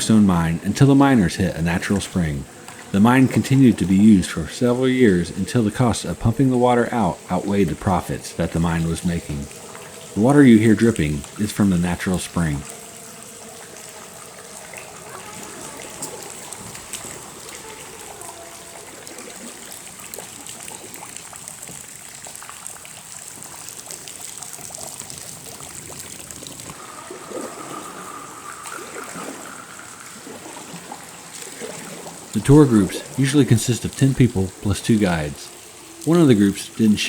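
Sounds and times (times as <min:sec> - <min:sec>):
water dripping and trickling: 0:00.0 - 0:37.0.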